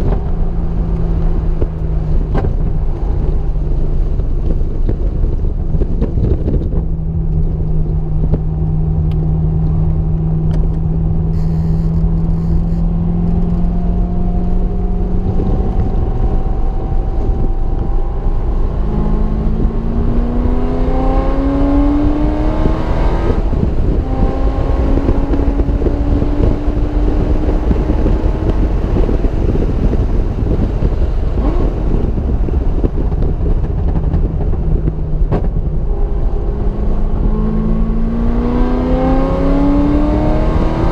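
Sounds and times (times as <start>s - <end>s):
car engine accelerating: 0.0s - 40.9s
road rumble: 0.0s - 40.9s
wind noise: 0.0s - 40.9s.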